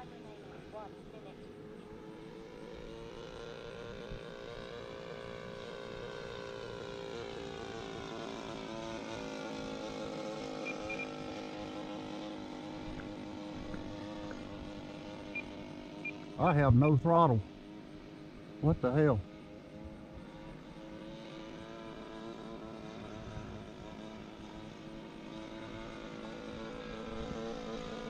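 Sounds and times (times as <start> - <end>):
model airplane engine drone: 0.0 - 28.0.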